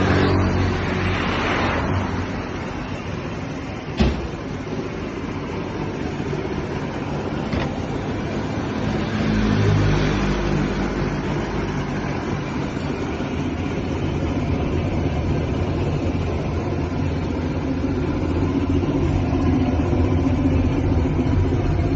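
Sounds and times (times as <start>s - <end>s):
engine running: 0.0s - 21.9s.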